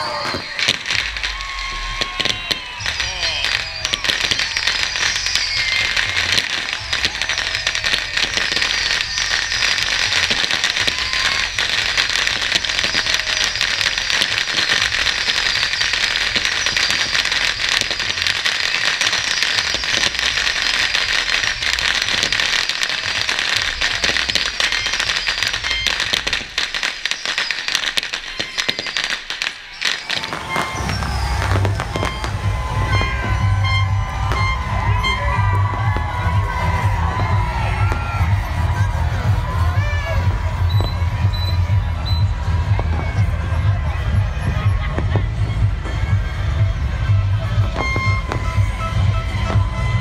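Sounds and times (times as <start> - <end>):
fireworks crackling bangs: 0.0 - 50.0
fireworks whistles falling in pitch: 0.0 - 50.0.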